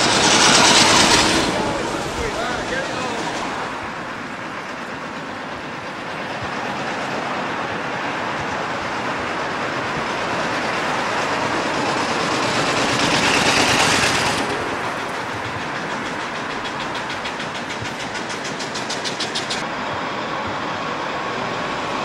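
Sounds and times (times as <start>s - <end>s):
rapid even ticking: 0.0s - 19.7s
passing vehicle rush: 0.0s - 22.0s
road traffic: 0.0s - 22.0s.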